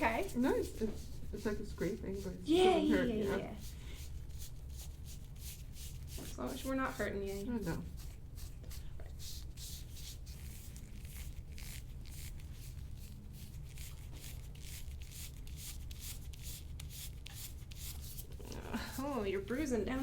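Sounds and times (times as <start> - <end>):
scraping tool rubbing over skin: 0.0 - 20.0.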